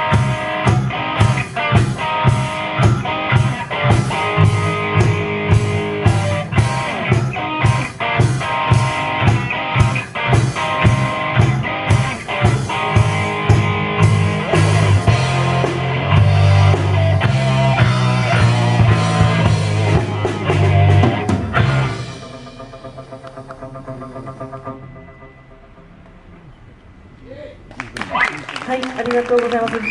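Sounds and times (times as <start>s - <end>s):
rock band playing: 0.0s - 26.4s.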